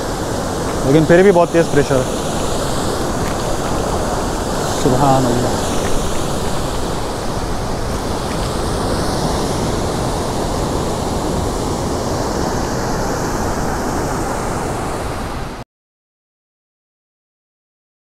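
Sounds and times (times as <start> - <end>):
water rushing through spillway: 0.0 - 15.6.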